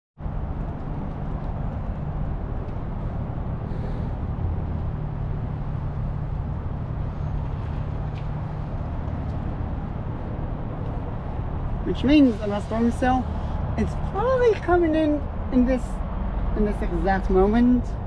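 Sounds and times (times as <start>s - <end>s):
outdoor background rush: 0.2s - 18.0s.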